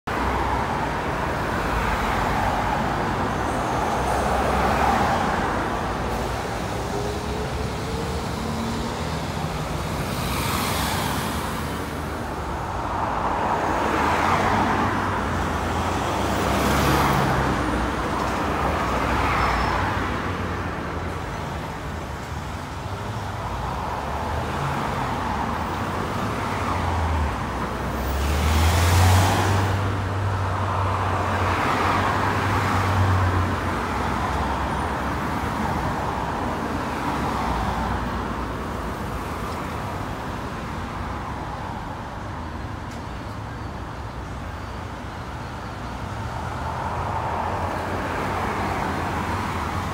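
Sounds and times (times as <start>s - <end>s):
vehicles passing: 0.1s - 49.9s.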